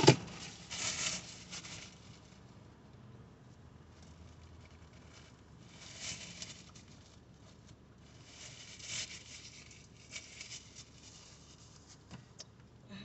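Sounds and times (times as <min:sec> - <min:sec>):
paper tissue rustling: 0:00.0 - 0:02.6, 0:03.9 - 0:12.1
tissue crackles: 0:00.0 - 0:02.6, 0:04.0 - 0:12.1.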